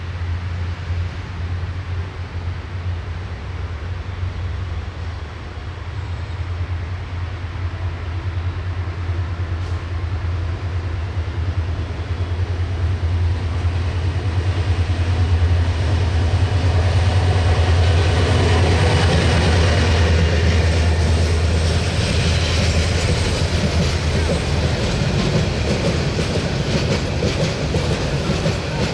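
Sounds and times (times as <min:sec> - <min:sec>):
train engine droning: 0:00.0 - 0:28.9
train wheels rattling on track: 0:00.0 - 0:28.9.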